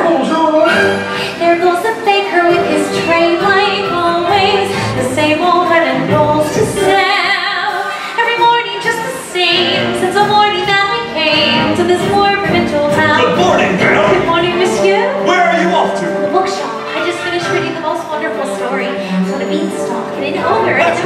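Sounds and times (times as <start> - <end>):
musical accompaniment: 0.0 - 21.0
voices singing show tune: 0.0 - 21.0.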